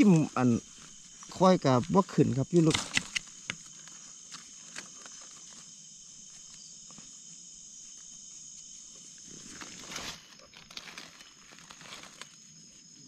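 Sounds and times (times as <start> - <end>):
scraping soil and dry leaves: 0.0 - 7.3, 7.9 - 13.0
insects chirping: 0.0 - 13.0.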